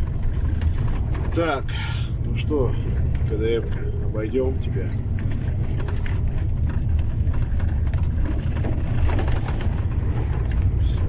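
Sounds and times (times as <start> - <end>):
truck diesel engine rumble: 0.0 - 11.0
tyres on road: 0.0 - 11.0.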